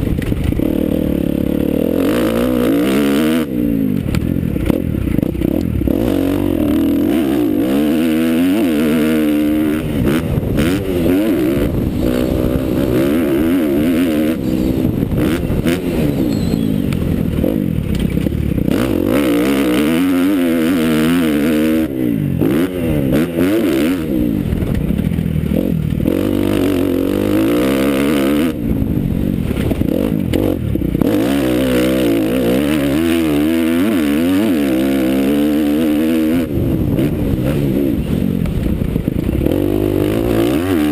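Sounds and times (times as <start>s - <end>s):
motocross bike engine revving: 0.2s - 40.9s.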